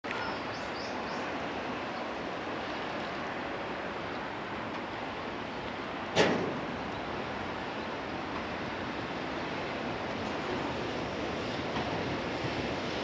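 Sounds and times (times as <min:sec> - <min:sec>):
steady outdoor rushing noise: 0:00.0 - 0:13.0.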